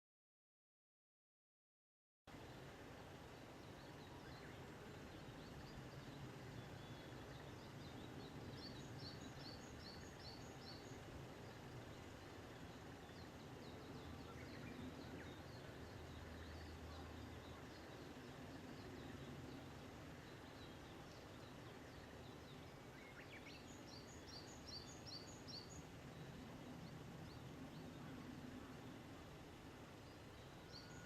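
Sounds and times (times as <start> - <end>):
low steady hum: 2.3 - 31.0
birds calling and singing: 2.4 - 31.0.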